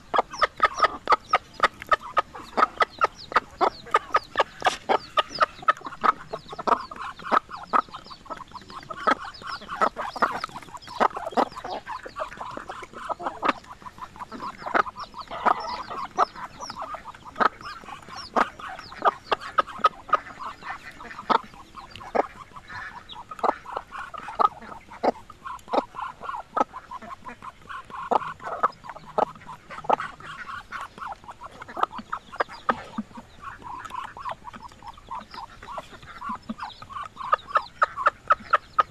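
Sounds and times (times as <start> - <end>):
chickens clucking sharply: 0.0 - 38.9
soft chatter of chickens: 0.0 - 38.9.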